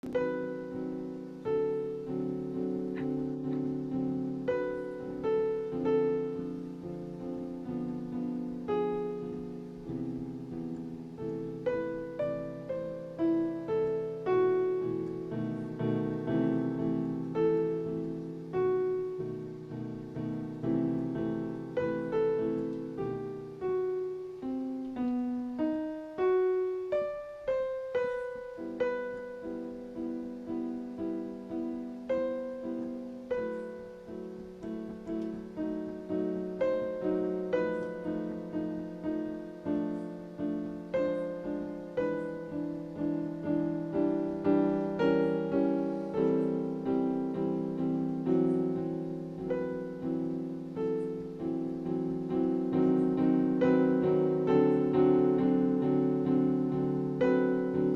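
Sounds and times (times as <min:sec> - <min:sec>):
solo piano piece: 0:00.0 - 0:57.9.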